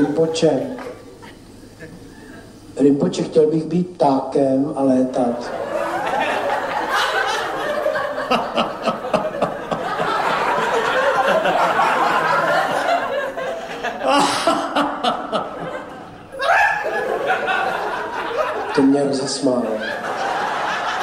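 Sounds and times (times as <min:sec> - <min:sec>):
audience laughing: 0:00.0 - 0:02.7, 0:05.2 - 0:21.0.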